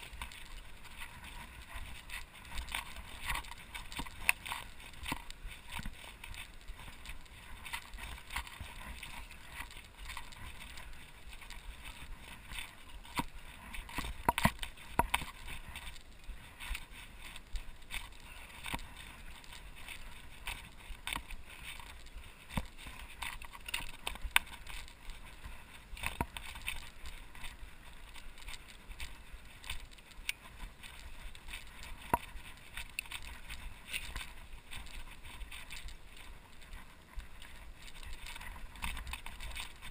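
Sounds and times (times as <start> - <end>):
bike frame and chain rattling: 0.0 - 39.9
bike tyres crunching on stones: 0.0 - 39.9.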